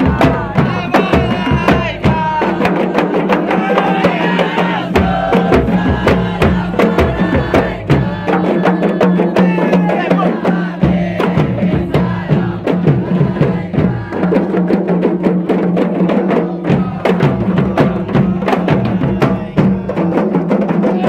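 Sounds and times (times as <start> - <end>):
hand frame drums beaten: 0.0 - 21.0.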